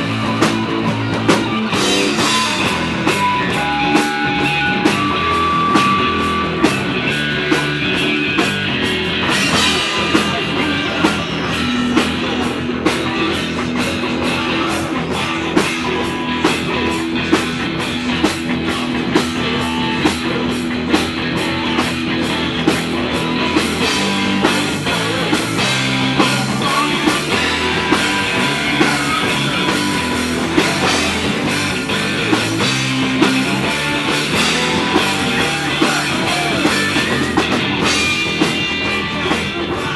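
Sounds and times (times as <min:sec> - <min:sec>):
drum kit cymbal beat: 0:00.0 - 0:39.9
electric guitar: 0:00.0 - 0:39.9.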